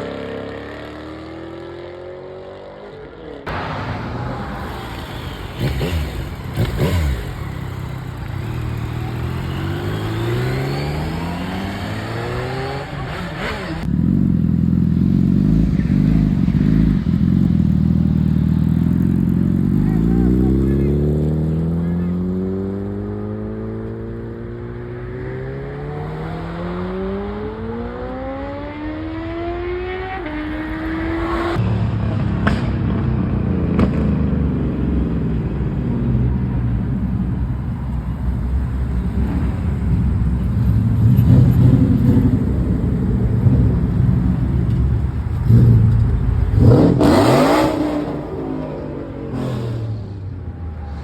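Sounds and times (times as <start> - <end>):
car engine accelerating: 3.5 - 34.3, 36.3 - 51.0.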